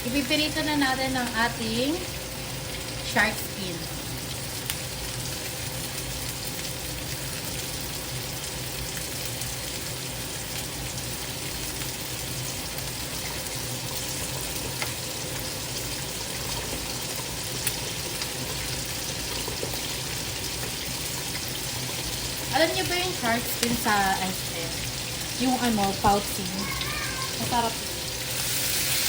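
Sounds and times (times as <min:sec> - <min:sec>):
oil sizzling in a pan: 0:00.0 - 0:29.0.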